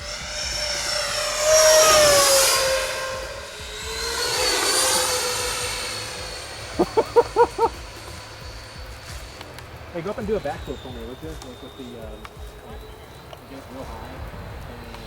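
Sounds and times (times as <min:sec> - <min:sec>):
model jet fans whining: 0:00.0 - 0:15.0.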